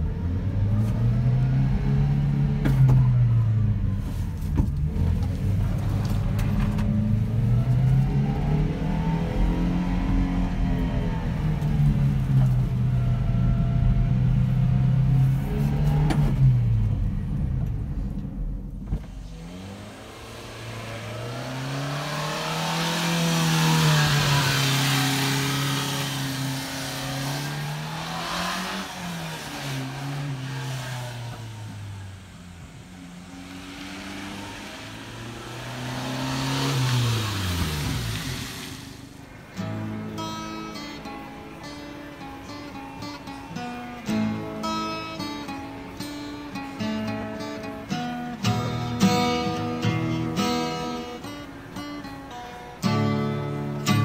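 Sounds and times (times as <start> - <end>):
truck engine running and revving: 0.0 - 54.0.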